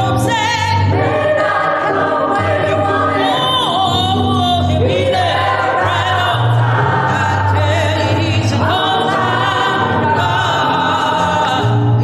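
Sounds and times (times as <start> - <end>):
choir singing gospel song: 0.0 - 12.0.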